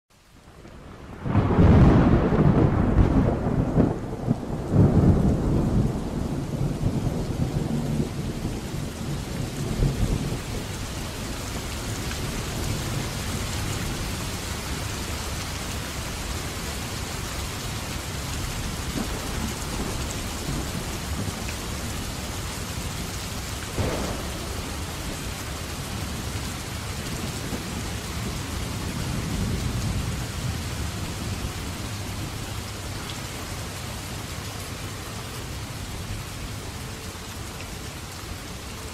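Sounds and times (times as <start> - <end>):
steady rain: 0.1 - 38.9.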